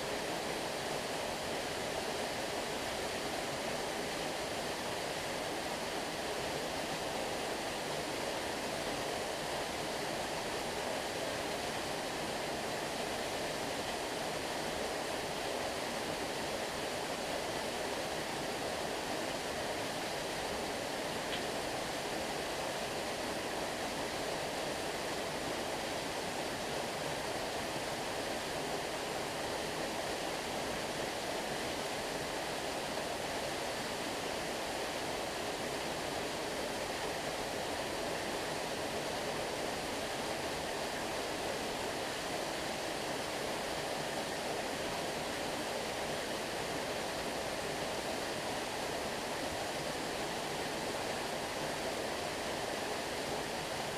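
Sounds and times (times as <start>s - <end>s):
stream water flowing: 0.0s - 53.9s.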